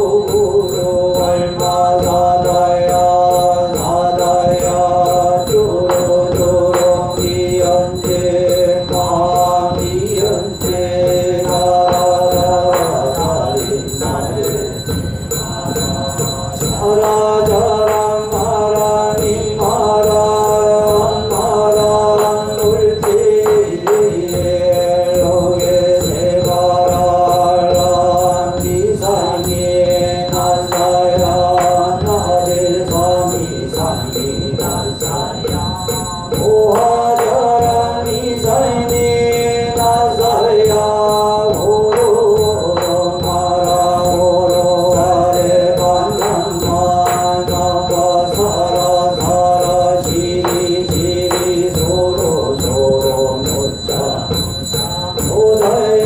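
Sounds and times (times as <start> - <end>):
monk and congregation chanting: 0.0 - 56.0
sharp percussive strikes: 0.0 - 56.0.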